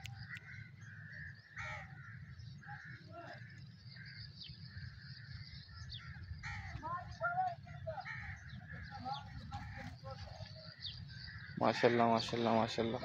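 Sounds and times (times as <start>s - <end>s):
birds cawing: 0.0s - 13.0s.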